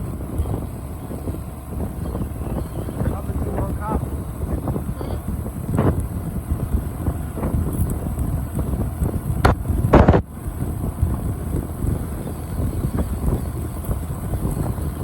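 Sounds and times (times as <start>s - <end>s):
motorcycle engine rumble: 0.0s - 15.0s
wind on microphone: 0.0s - 15.0s.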